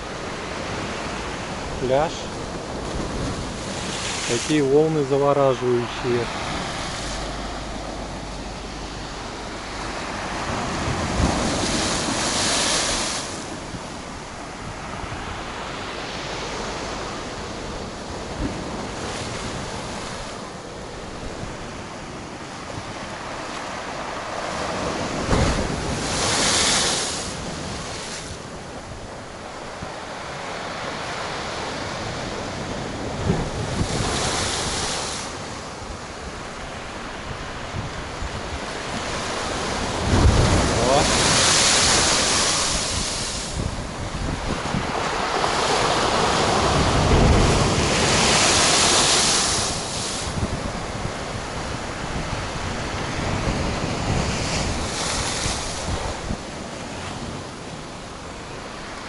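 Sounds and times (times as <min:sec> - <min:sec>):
wind buffeting microphone: 0:00.0 - 0:23.1, 0:31.8 - 0:57.9
large waves crashing on shore: 0:00.0 - 0:59.0
steady wash of water: 0:00.0 - 0:59.0.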